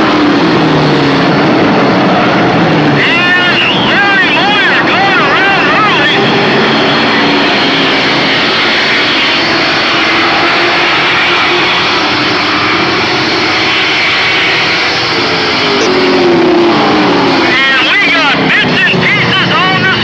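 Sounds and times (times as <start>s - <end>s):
truck passing close by: 0.0s - 19.3s
race truck engines: 0.0s - 20.0s.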